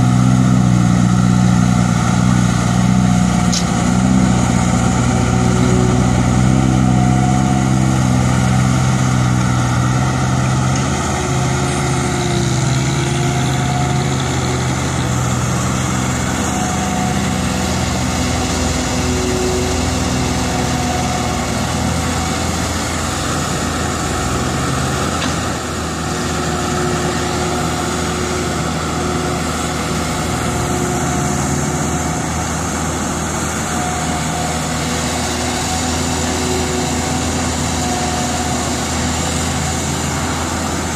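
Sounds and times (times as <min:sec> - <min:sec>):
diesel engines running: 0:00.0 - 0:40.9
excavator digging soil: 0:00.0 - 0:40.9.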